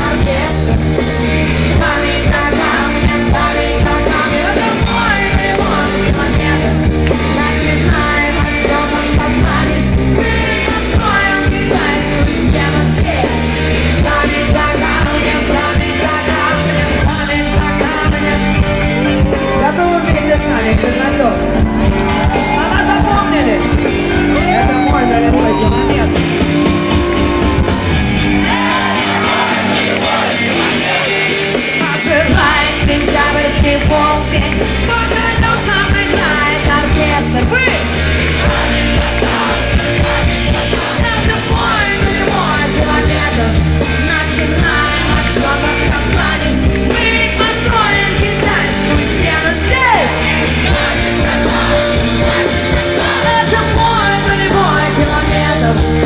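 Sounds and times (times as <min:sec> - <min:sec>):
woman singing: 0:00.0 - 0:21.6, 0:31.6 - 0:56.0
live rock band: 0:00.0 - 0:56.0.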